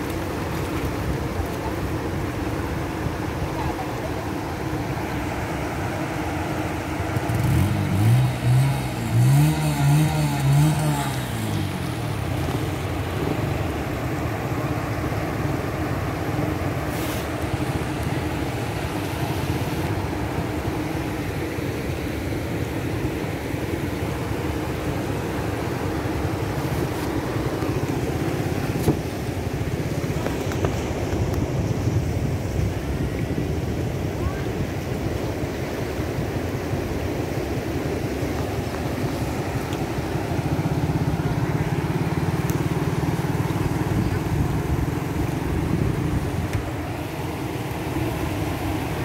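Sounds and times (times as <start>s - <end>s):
floodwater rushing: 0.0s - 49.0s.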